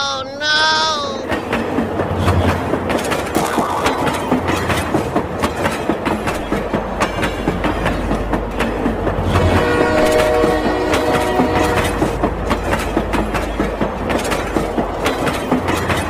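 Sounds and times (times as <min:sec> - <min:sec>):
train rattling clicks: 0:00.0 - 0:16.0.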